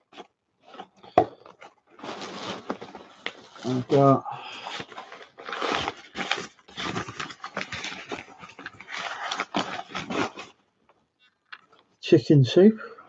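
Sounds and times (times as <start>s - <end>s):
wrapping paper rustling: 0.0s - 10.6s.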